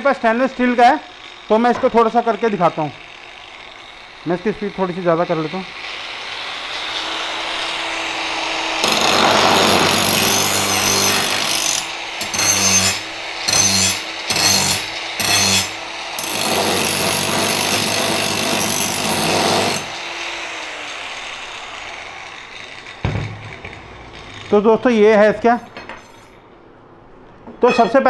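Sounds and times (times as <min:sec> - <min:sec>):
angle grinder cutting steel rod: 0:00.0 - 0:26.4.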